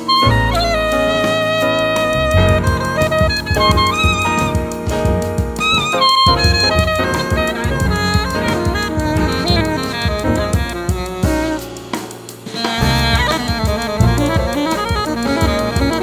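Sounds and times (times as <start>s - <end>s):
alto saxophone melody: 0.0s - 16.0s
bass: 0.0s - 16.0s
drum kit keeping time: 0.0s - 16.0s
piano: 0.0s - 16.0s.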